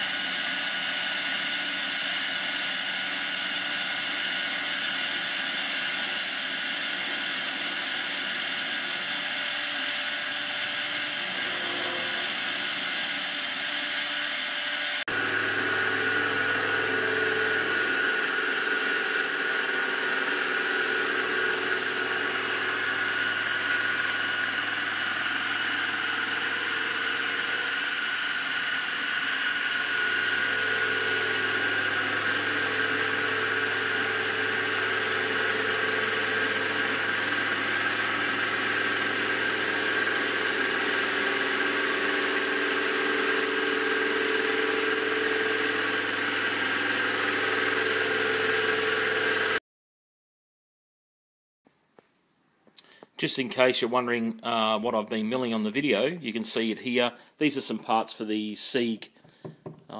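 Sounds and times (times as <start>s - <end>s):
milling machine whine: 0.0s - 49.6s.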